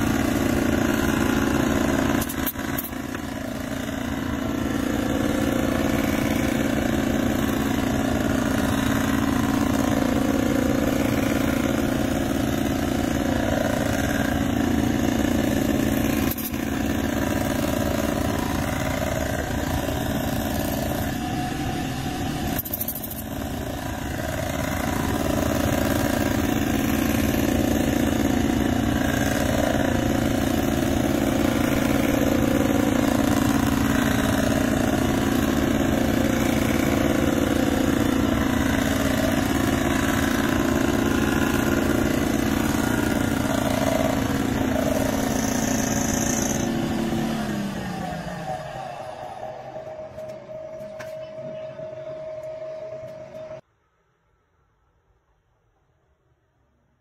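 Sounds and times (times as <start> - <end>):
resurfacing machine humming: 0.0 - 53.6.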